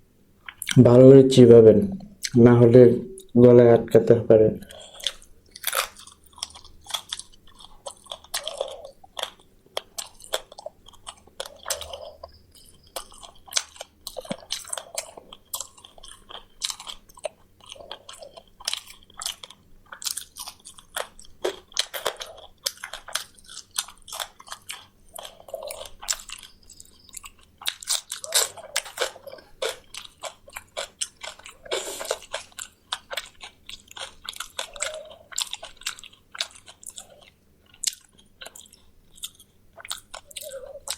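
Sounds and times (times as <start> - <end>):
person chewing and crunching: 0.4 - 1.0, 4.6 - 40.9.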